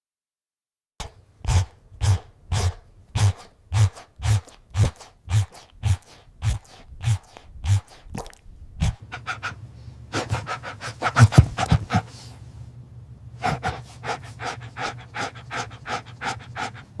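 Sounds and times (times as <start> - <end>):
steady low hum: 1.0 - 17.0
dog panting: 1.5 - 8.1, 8.8 - 12.5, 13.4 - 17.0.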